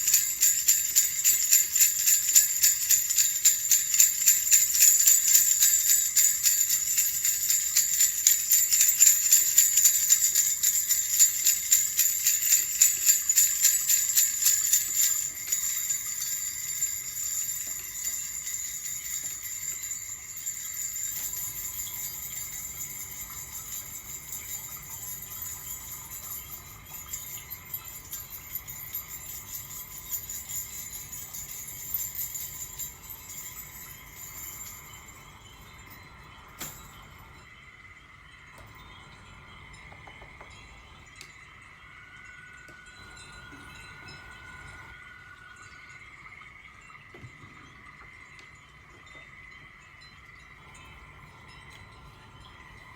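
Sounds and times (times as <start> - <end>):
small bells shaken: 0.0 - 52.9.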